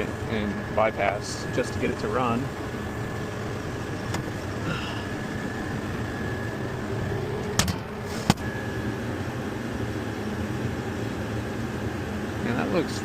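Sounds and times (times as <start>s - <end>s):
faint whine: 0.0s - 13.0s
hvac equipment humming: 0.0s - 13.0s.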